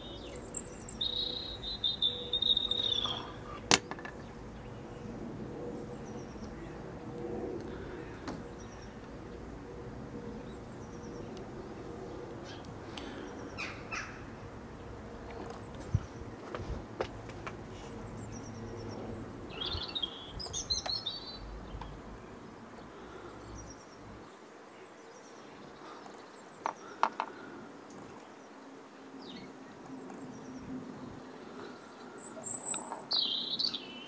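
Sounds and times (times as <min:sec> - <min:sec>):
small birds chirping: 0:00.0 - 0:16.8, 0:17.5 - 0:34.0.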